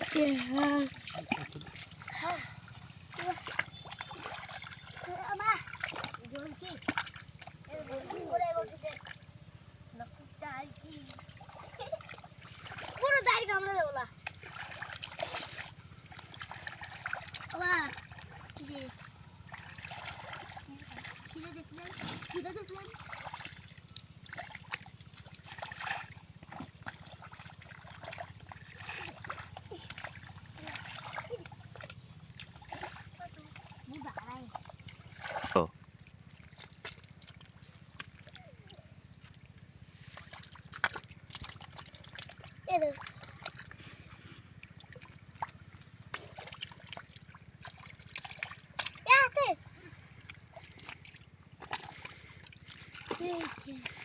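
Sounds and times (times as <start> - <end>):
low steady rumble: 0.0 - 54.0
steady low hum: 0.0 - 54.0
water splashing and trickling: 0.0 - 54.0.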